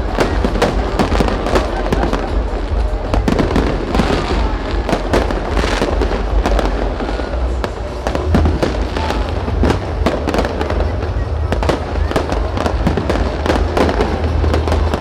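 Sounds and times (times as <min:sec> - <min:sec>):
continuous rumble: 0:00.0 - 0:15.0
fireworks bangs and crackles: 0:00.0 - 0:15.0.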